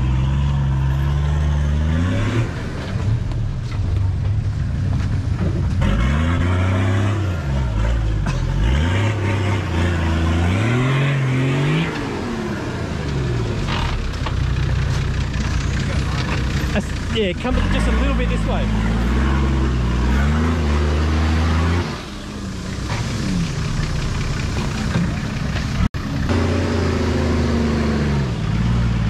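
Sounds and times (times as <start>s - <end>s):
off-road engine revving: 0.0s - 29.0s.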